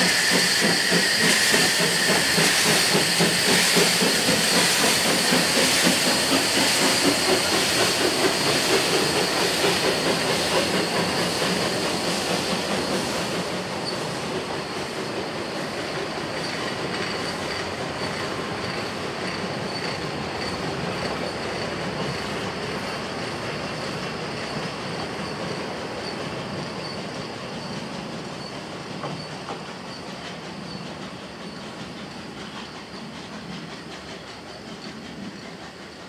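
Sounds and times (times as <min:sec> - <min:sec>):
train wheels clattering: 0:00.0 - 0:36.0.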